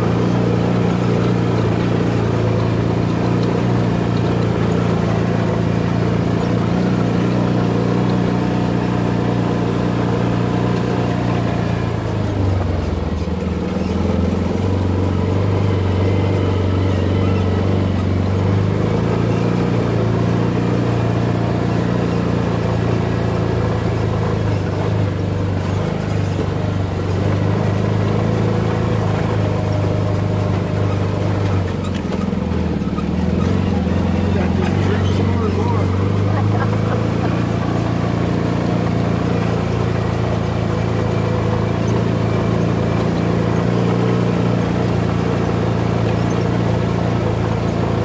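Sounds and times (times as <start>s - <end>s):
utility vehicle engine running: 0.0s - 48.0s.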